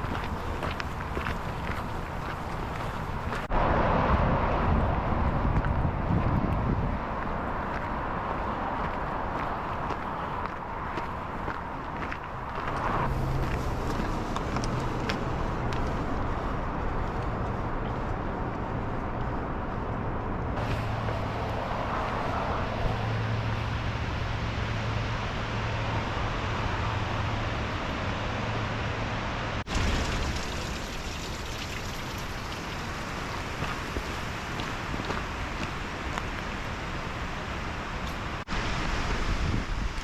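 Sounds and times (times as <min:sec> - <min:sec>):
distant road traffic rumble: 0:00.0 - 0:40.0.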